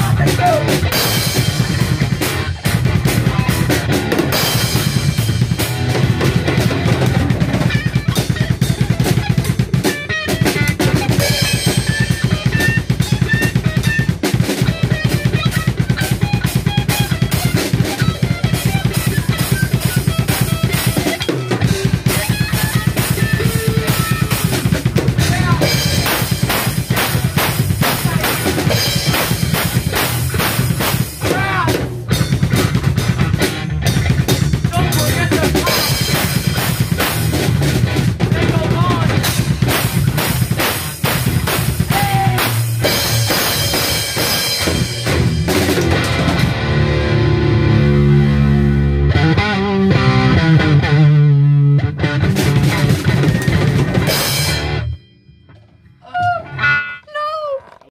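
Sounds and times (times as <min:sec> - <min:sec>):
drum kit fast strokes: 0:00.0 - 0:46.8, 0:52.2 - 0:54.8
band playing heavy music: 0:00.0 - 0:57.8
electric guitar: 0:00.0 - 0:57.9.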